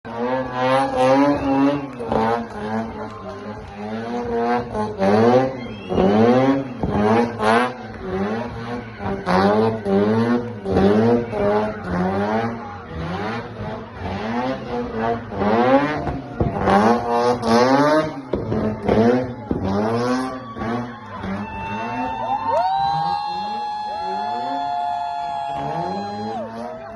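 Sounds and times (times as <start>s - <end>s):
rotary engine revving hard: 0.1s - 22.2s, 25.2s - 26.9s.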